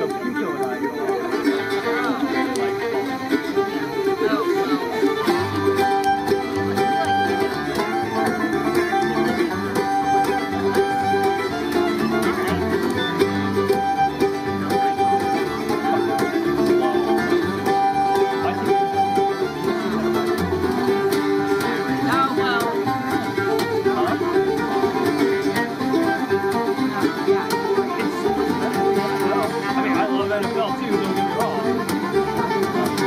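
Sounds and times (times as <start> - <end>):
acoustic guitar: 0.0 - 33.0
banjo: 0.0 - 33.0
fiddle: 0.0 - 33.0
mandolin: 0.0 - 33.0.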